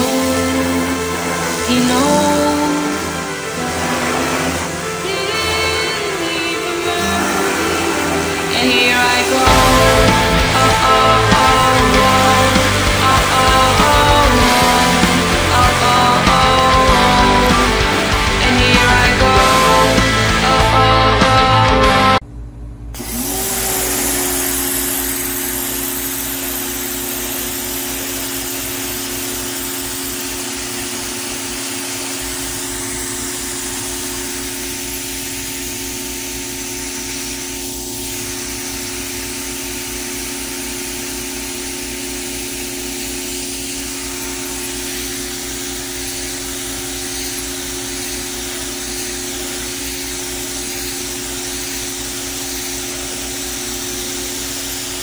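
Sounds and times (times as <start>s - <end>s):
pressure washer spray hissing: 0.0s - 20.9s, 23.1s - 55.0s
pressure washer motor hum: 0.0s - 22.2s, 22.9s - 55.0s.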